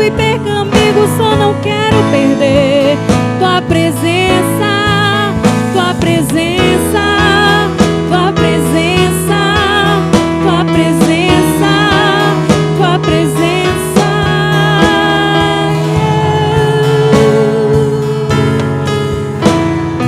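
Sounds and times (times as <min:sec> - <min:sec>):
gospel worship band music: 0:00.0 - 0:20.0.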